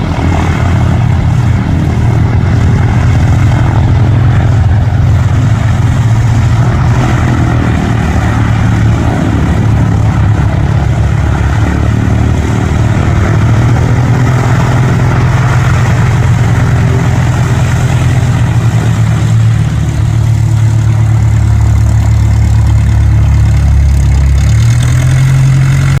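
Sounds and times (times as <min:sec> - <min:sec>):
propeller aircraft engine droning: 0:00.0 - 0:26.0.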